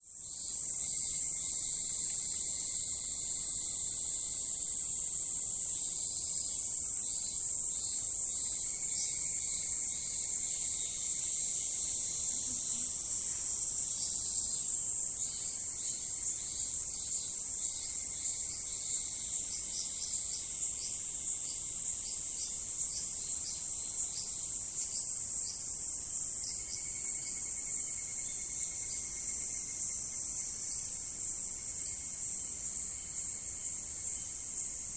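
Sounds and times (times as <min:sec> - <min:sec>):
faint low insect trill: 0:00.0 - 0:34.9
insects trilling chorus: 0:00.1 - 0:34.9
short insect chirps: 0:00.2 - 0:34.9.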